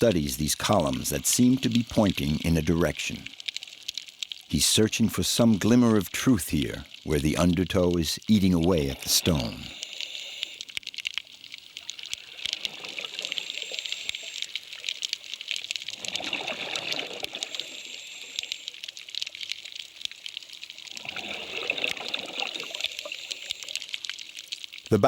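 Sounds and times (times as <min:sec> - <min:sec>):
fizzing crackle: 0:00.0 - 0:25.0.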